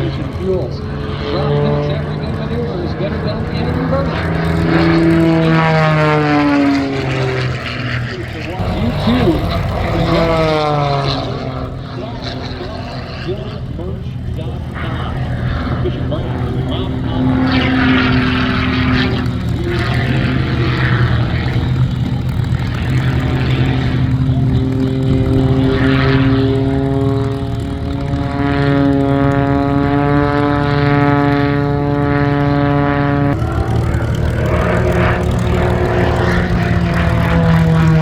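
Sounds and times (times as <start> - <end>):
propeller plane engine drone: 0.0 - 38.0.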